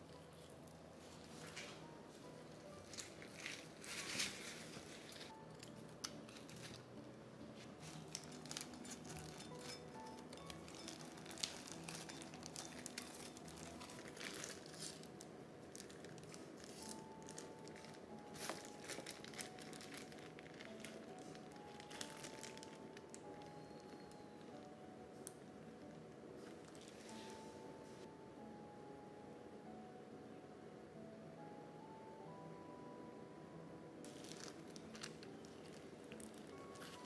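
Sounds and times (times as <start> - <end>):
wrapping material crinkling: 0.0 - 27.5, 34.1 - 37.0
soft background music: 0.0 - 37.0.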